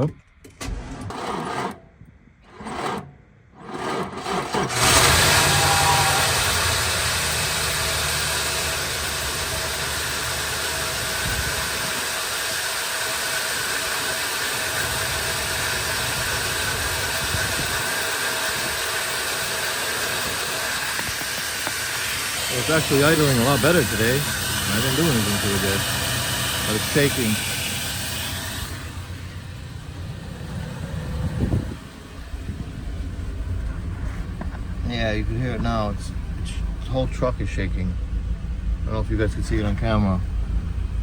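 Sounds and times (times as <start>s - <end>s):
truck engine cranking and idling: 0.0s - 41.0s.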